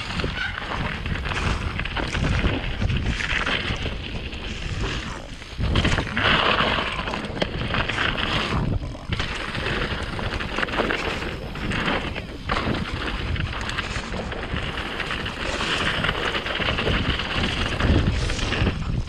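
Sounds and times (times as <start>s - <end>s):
bike rattling: 0.0s - 19.0s
bike tyres crunching: 0.0s - 19.0s
wind buffeting microphone: 0.0s - 19.0s.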